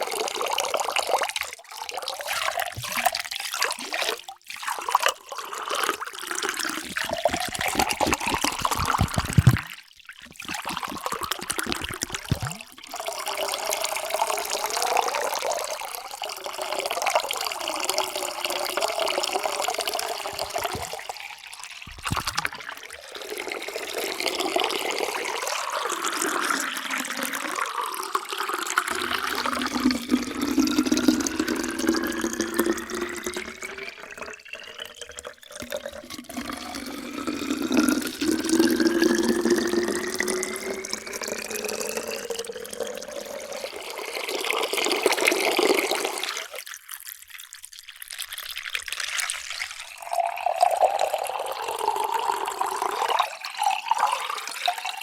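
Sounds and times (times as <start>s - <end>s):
water pouring into container: 0.0s - 55.0s.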